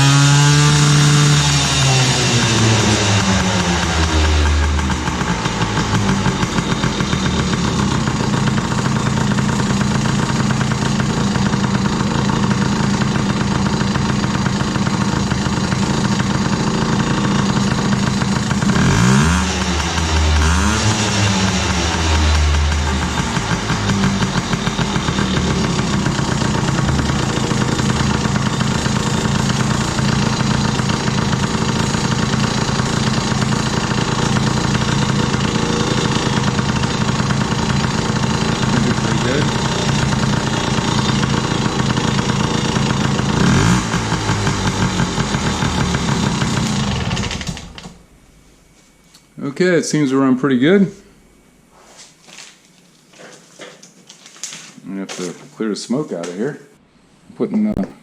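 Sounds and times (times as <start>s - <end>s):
two-stroke engine idling and revving: 0.0s - 48.0s.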